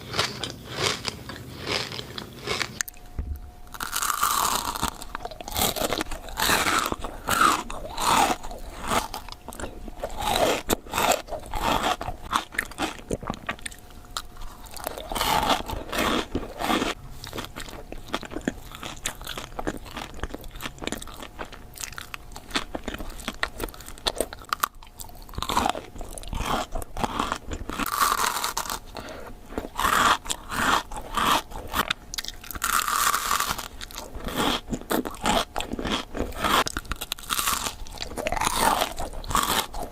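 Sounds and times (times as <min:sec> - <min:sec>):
crunchy chocolate bar chewing: 0:00.0 - 0:03.1, 0:03.7 - 0:39.9.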